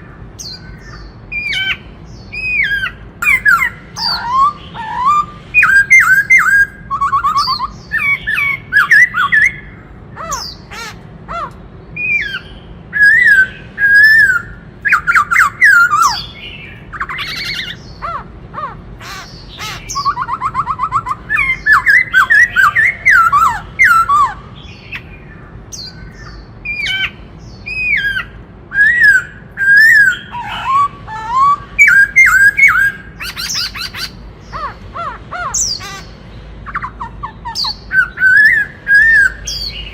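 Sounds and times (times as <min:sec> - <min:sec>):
laughingthrush singing: 0:00.0 - 0:39.9.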